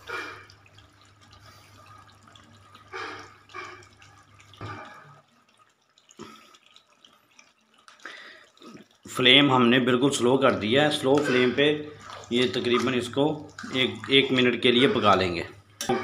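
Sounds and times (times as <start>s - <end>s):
cream squirting and dripping: 0.0s - 15.4s.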